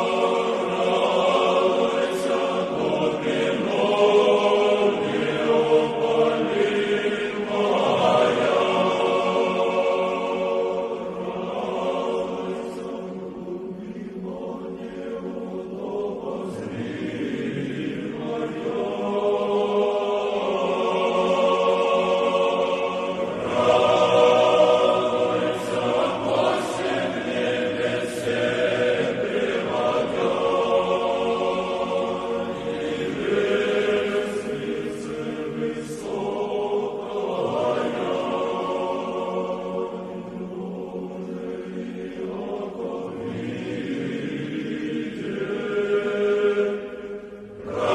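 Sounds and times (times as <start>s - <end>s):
choir singing church chant: 0.0s - 47.9s.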